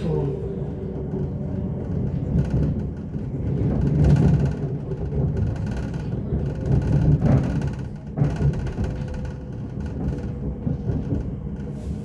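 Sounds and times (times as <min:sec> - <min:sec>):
train carriage rattling: 0:00.0 - 0:12.0
train wheels rumbling on rail: 0:00.0 - 0:12.0.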